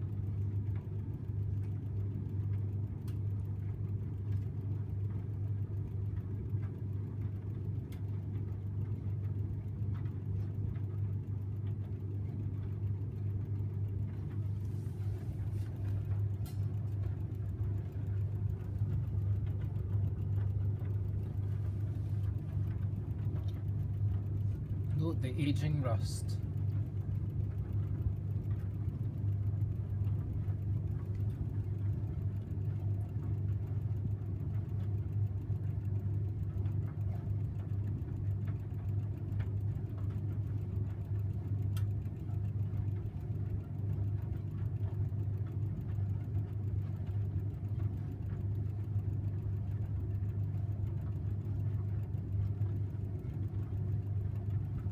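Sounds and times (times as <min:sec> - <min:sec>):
tumble dryer humming: 0:00.0 - 0:54.9.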